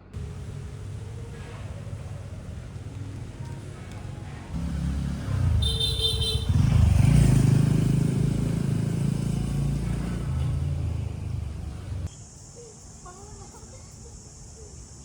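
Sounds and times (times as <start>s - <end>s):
vehicle engine passing: 0.0s - 12.1s.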